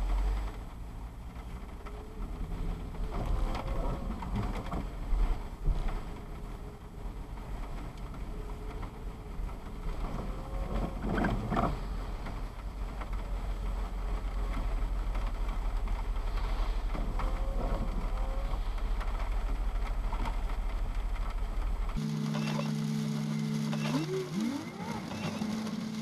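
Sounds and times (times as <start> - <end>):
car rumbling in traffic: 0.0 - 26.0
rain on windscreen: 0.0 - 26.0
windscreen wiper swishing: 0.0 - 26.0.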